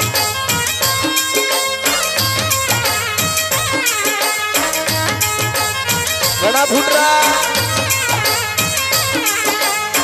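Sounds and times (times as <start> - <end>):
ornamented folk melody: 0.0 - 10.0
steady percussion beat: 0.0 - 10.0.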